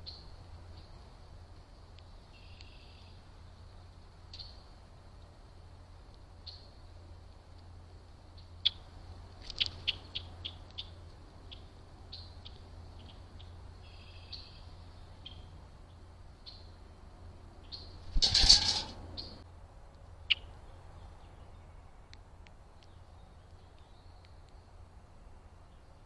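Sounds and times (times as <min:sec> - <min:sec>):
small birds chirping: 0:00.0 - 0:01.2, 0:01.9 - 0:19.5, 0:20.2 - 0:26.0.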